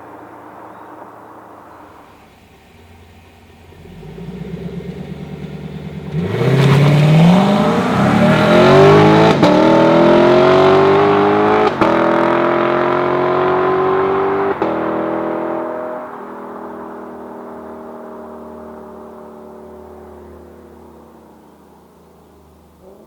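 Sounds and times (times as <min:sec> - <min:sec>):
sports car engine accelerating: 0:00.1 - 0:23.0.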